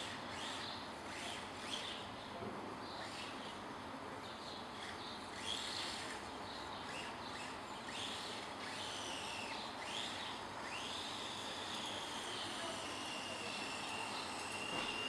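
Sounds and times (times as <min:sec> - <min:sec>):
small electric motor whining: 0:00.0 - 0:02.2, 0:02.8 - 0:03.6, 0:04.4 - 0:15.0.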